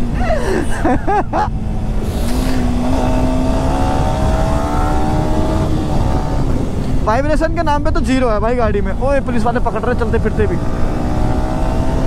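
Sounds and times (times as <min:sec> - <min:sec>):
low wind rumble on microphone: 0:00.0 - 0:12.0
motorcycle engine at speed: 0:01.3 - 0:12.0.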